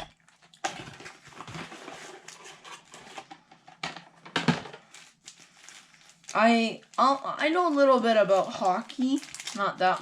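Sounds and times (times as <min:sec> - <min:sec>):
packaging crinkling and rustling: 0:00.2 - 0:10.0.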